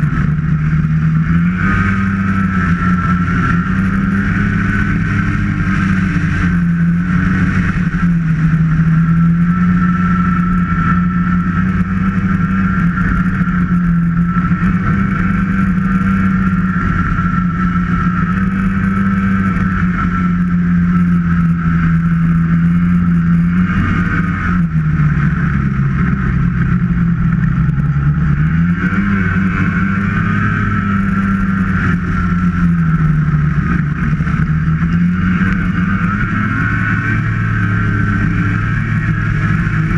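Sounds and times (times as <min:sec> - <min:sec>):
high whine: 0:00.0 - 0:39.9
snowmobile engine running: 0:00.0 - 0:39.9.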